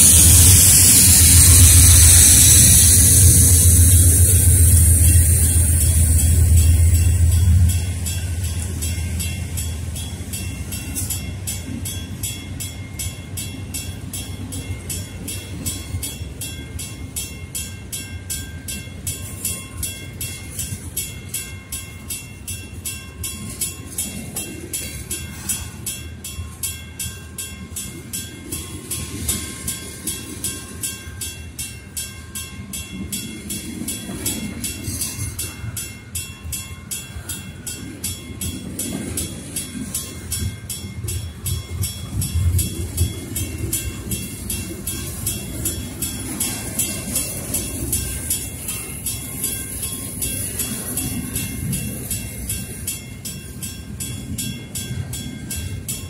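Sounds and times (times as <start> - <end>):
crossing warning bell ringing: 0.0 - 56.0
steel wheels rumbling on rail: 0.0 - 56.0.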